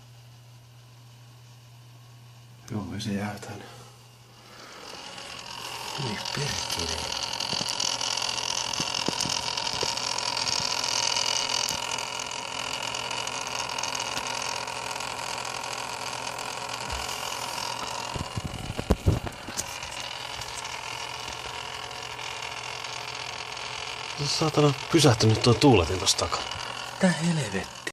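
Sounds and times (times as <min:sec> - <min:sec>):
cooler pump whirring: 0:00.0 - 0:27.9.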